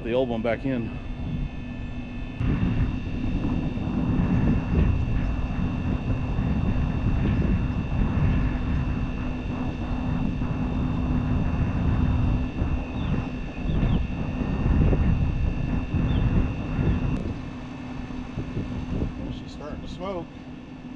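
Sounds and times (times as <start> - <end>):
fan motor humming and whining: 0.0 - 20.9
low rumbling noise: 0.0 - 20.9.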